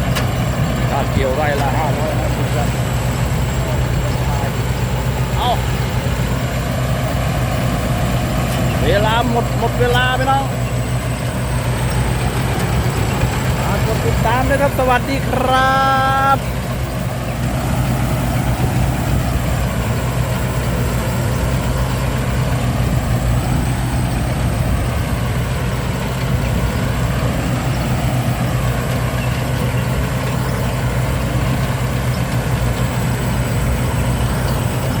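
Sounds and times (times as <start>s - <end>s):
combine harvester engine humming: 0.0s - 35.0s.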